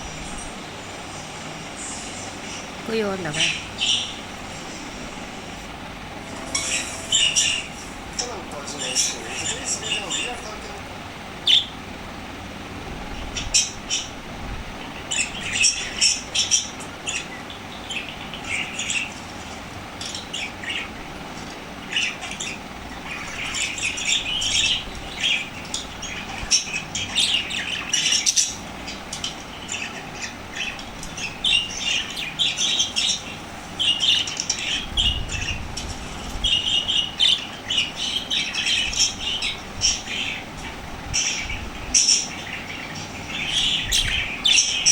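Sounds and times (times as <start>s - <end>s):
parrots chirping and squawking: 1.8s - 5.6s, 6.2s - 12.0s, 13.2s - 14.2s, 14.8s - 44.9s.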